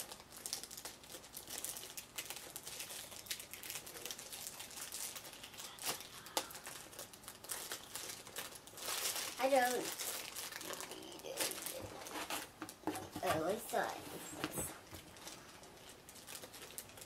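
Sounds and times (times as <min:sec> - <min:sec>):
plastic packet crinkling: 0:00.0 - 0:14.0, 0:14.8 - 0:17.0.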